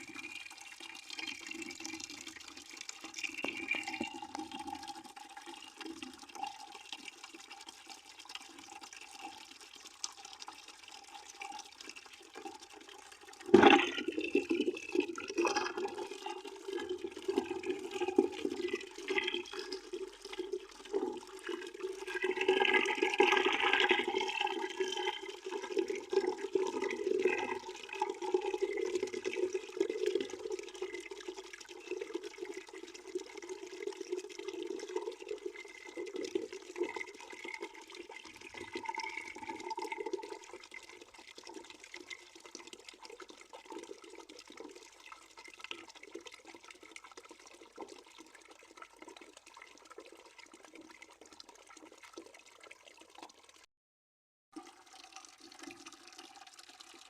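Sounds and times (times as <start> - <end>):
water running into a bucket: 0.0 - 53.7, 54.5 - 57.0.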